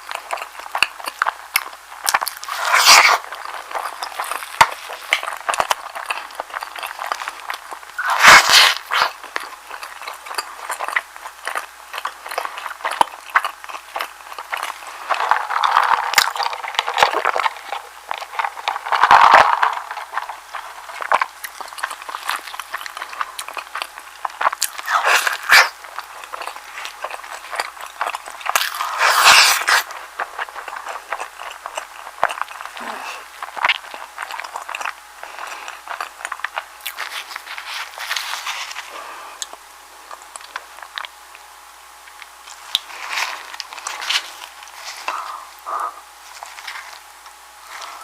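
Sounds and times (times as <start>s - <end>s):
chewing with wet mouth clicks: 0.0s - 38.4s, 39.4s - 47.9s
biting into sandwich: 0.0s - 41.5s.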